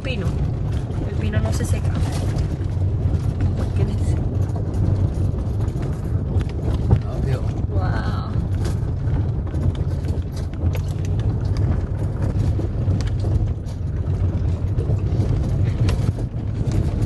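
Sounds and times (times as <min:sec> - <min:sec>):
engine and tyre rumble: 0:00.0 - 0:17.0
stones clicking under tyres: 0:00.0 - 0:17.0.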